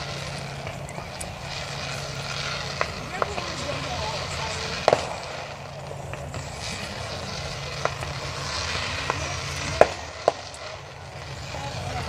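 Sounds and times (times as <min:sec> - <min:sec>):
crackling hiss: 0:00.0 - 0:12.0
fireworks popping: 0:00.0 - 0:12.0.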